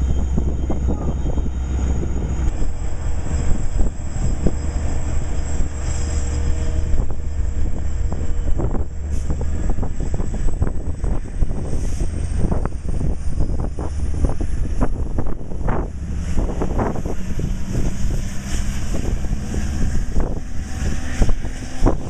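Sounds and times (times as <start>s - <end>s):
locomotive diesel engine drone: 0.0s - 22.0s
train clicking on rails: 0.0s - 22.0s.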